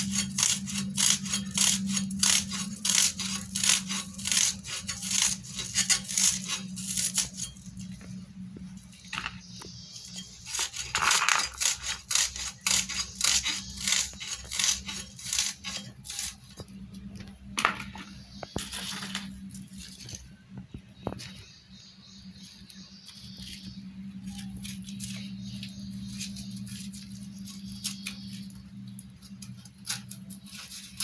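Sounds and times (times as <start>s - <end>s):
onion skins crackling and tearing: 0.0s - 20.4s, 22.4s - 31.0s.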